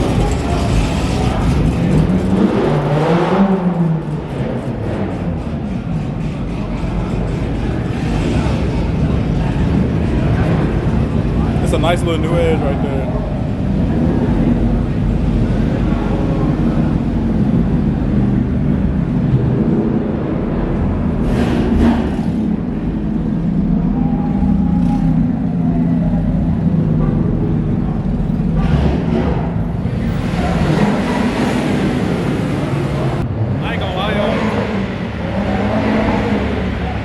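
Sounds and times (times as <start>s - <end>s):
car engines rumbling: 0.0s - 37.0s.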